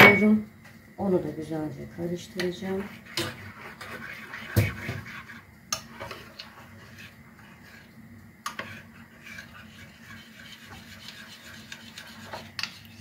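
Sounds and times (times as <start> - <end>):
spoon scraping pot: 2.2 - 13.0.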